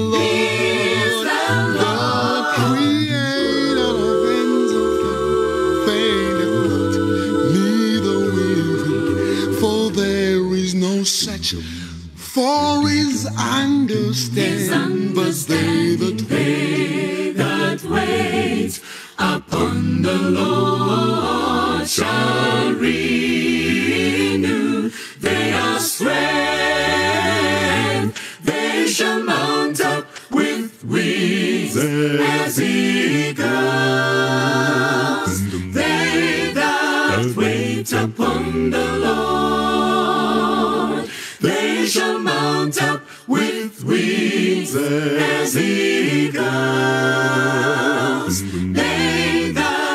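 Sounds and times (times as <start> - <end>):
a cappella group singing: 0.0 - 49.9.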